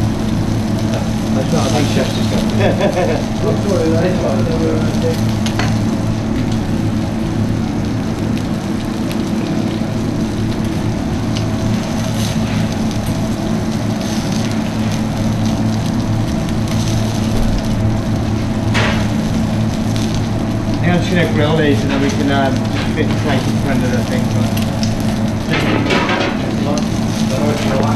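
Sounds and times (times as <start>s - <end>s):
kitchen extraction hum: 0.0s - 27.9s
onions sizzling on a hot plate: 0.0s - 27.9s.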